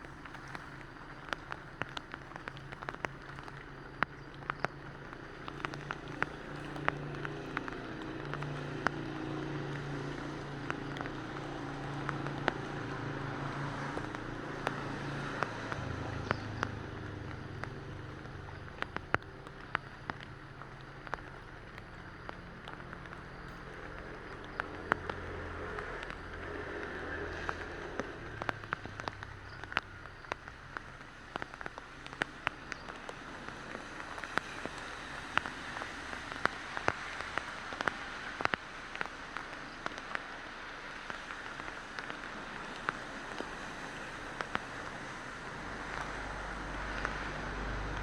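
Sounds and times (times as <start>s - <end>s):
rain drops on hard surface: 0.0s - 48.0s.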